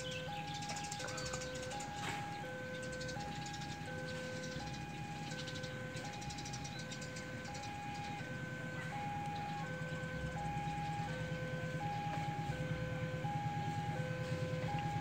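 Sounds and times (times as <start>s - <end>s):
low drone of approaching train: 0.0s - 15.0s
two-tone crossing alarm chime: 0.0s - 15.0s.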